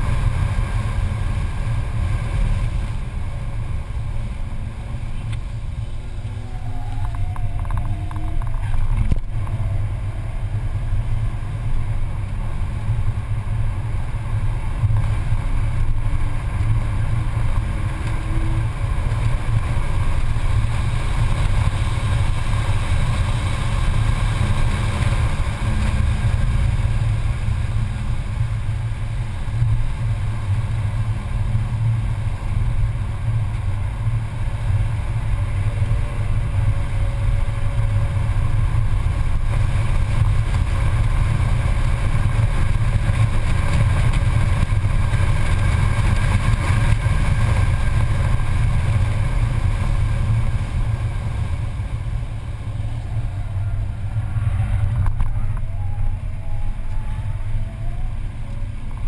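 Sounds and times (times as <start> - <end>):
deep engine drone: 0.0 - 59.0
road noise: 0.0 - 59.0.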